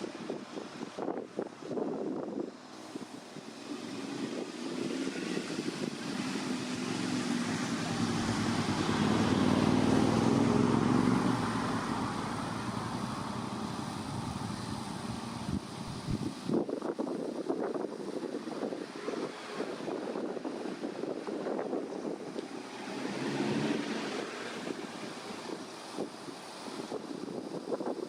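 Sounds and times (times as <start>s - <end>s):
road vehicle passing: 2.2s - 16.1s, 17.9s - 27.4s.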